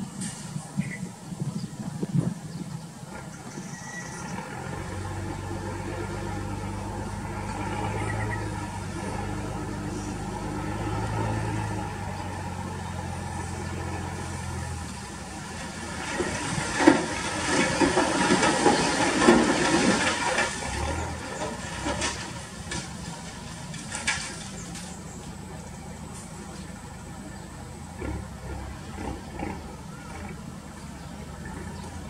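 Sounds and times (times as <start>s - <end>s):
crackling rushing soil unloading: 0.0s - 32.0s
diesel truck engine running: 0.0s - 32.0s.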